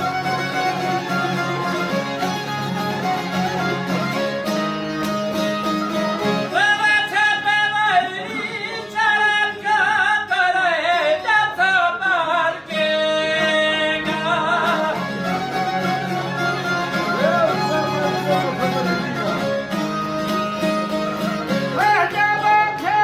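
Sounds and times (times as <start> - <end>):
fiddle: 0.0 - 23.0
plucked strings: 0.0 - 23.0.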